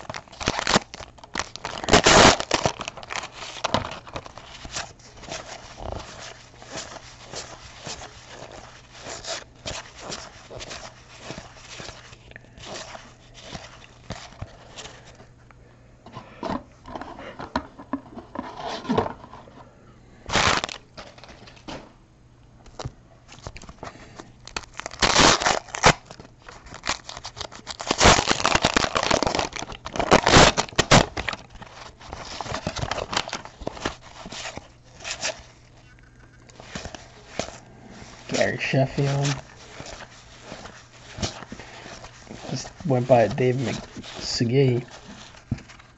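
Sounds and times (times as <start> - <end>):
wrapper crinkling and tearing: 0.0 - 15.2, 20.3 - 21.6, 22.7 - 45.9.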